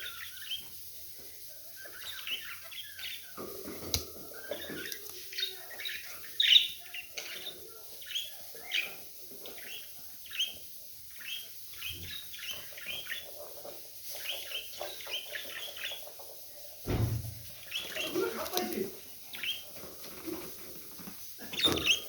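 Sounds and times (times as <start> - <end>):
budgerigars chirping: 0.0 - 0.8, 1.7 - 20.4, 21.4 - 22.0
faint bird chatter: 0.0 - 22.0.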